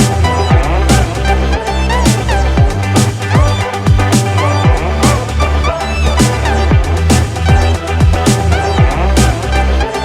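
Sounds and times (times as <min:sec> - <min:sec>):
dubstep dance music: 0:00.0 - 0:10.0.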